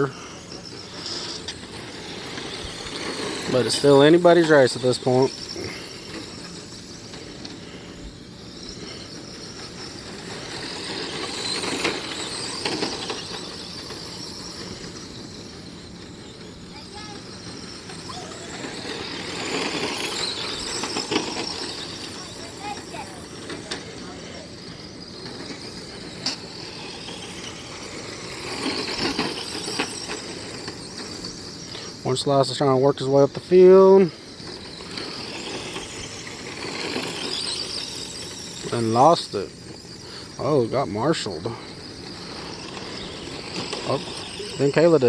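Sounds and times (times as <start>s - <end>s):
rc cars high-pitched whine: 0.0s - 45.0s.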